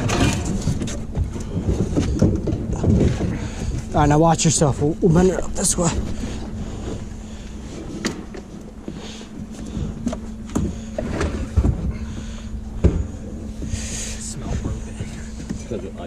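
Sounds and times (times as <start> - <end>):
heavy bench knocking and clunking: 0.0 - 16.0
steady low hum: 0.0 - 16.0.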